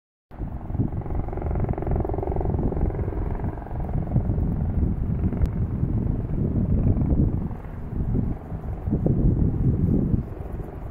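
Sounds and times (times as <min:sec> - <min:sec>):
helicopter rotor and engine: 0:00.3 - 0:10.9
wind buffeting microphone: 0:00.3 - 0:10.9.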